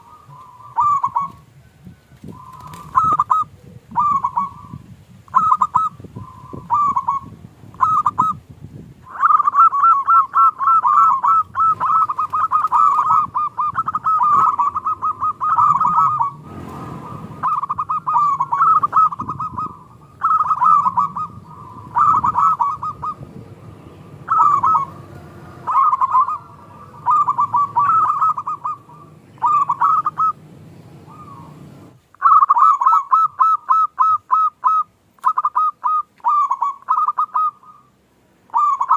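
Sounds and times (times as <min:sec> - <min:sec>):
doves cooing: 0:00.0 - 0:08.4, 0:09.0 - 0:38.9.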